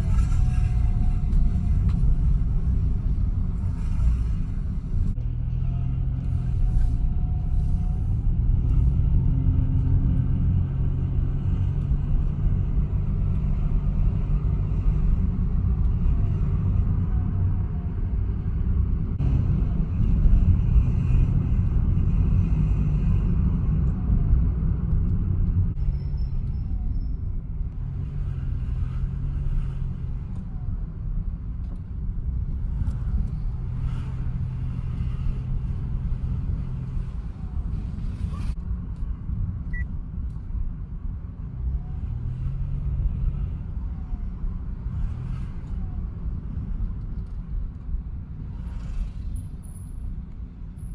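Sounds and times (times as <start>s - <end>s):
car engine low rumble: 0.0s - 50.9s.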